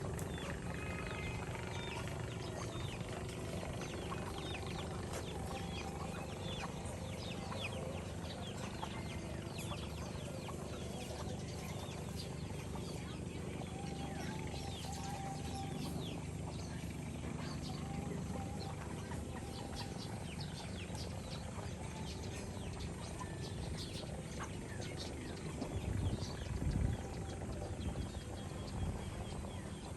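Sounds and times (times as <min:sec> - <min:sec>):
chickens clucking: 0:00.0 - 0:29.9
steady low rumble: 0:00.0 - 0:29.9.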